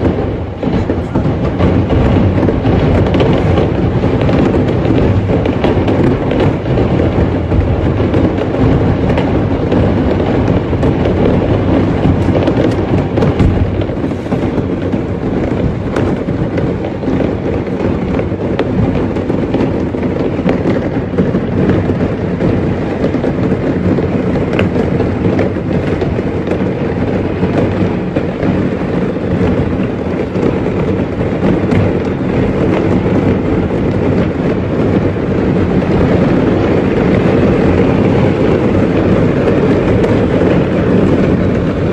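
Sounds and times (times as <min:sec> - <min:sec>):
continuous rumble: 0:00.0 - 0:41.9
fireworks bangs and crackling: 0:00.0 - 0:41.9.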